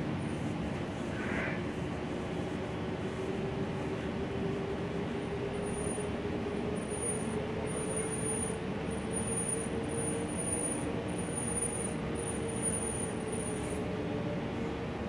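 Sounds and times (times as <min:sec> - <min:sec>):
bus engine whine: 0:00.0 - 0:15.0
road and cabin rumble: 0:00.0 - 0:15.0.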